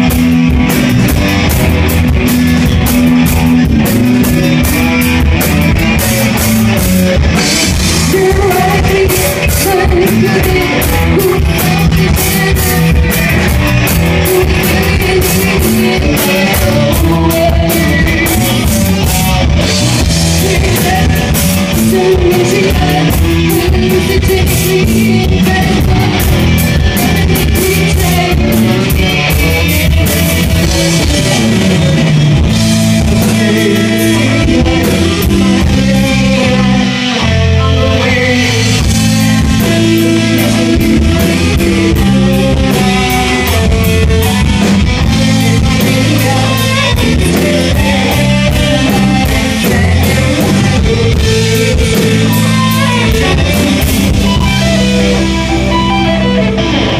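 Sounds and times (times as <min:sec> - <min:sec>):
bass guitar: 0:00.0 - 0:56.9
drum kit with cymbals: 0:00.0 - 0:56.9
electric guitars: 0:00.0 - 0:56.9.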